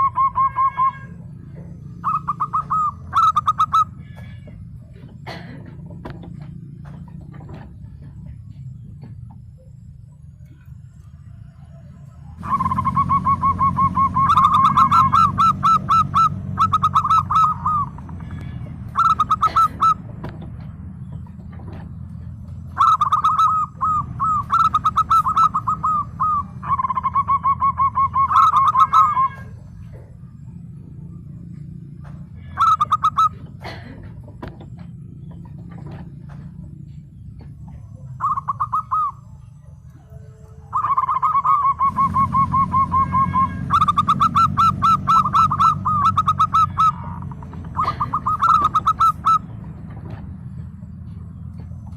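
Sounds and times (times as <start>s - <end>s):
dove cooing: 0.0s - 10.7s, 11.7s - 51.9s.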